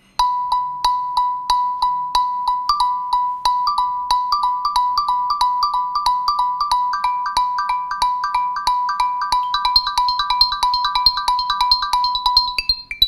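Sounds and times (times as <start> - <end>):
phone ringtone two-note pattern: 0.2 - 13.0.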